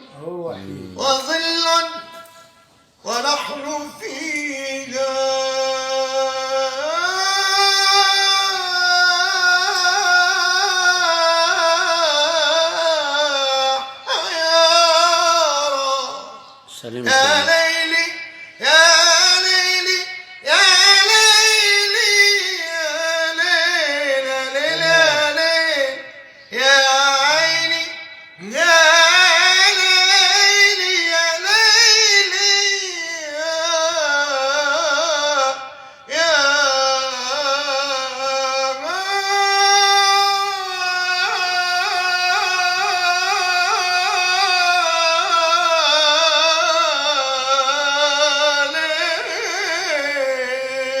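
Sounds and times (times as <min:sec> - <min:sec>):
man singing with vibrato: 0:00.0 - 0:51.0.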